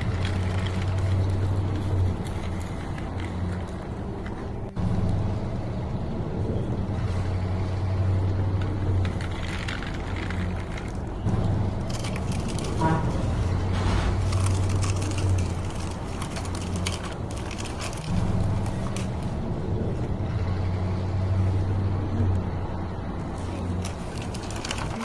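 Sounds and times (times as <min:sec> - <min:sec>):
dirt and gravel crunching: 0:00.0 - 0:05.3, 0:06.6 - 0:21.5, 0:23.2 - 0:25.0.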